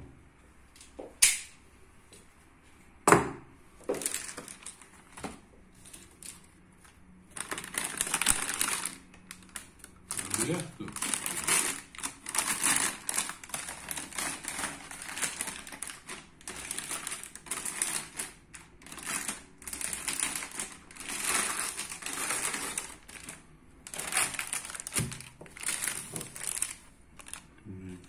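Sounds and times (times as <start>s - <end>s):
plastic bag crinkling: 3.8s - 6.6s, 7.3s - 27.5s.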